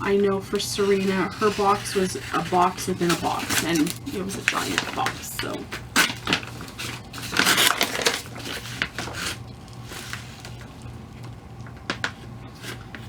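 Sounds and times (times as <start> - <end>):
cardboard packaging rustling: 0.0 - 13.0.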